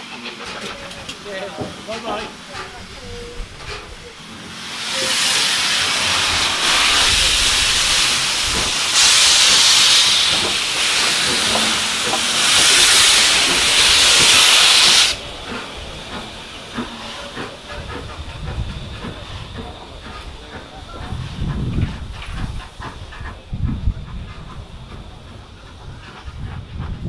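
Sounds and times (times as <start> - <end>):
steam hissing loudly: 0.0 - 27.0.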